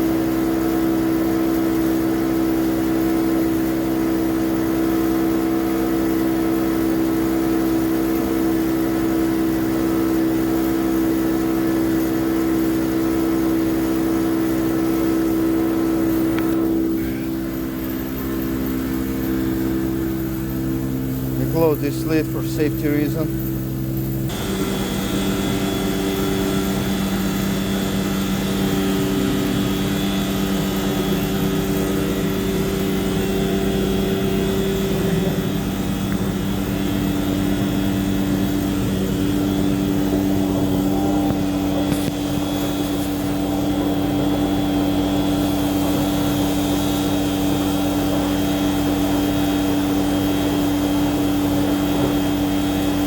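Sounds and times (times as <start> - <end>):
heavy machinery droning: 0.0 - 53.0.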